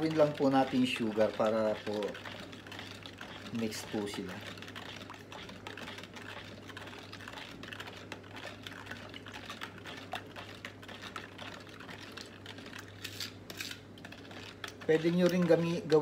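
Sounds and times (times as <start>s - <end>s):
spoon stirring in plastic jug: 0.0s - 16.0s.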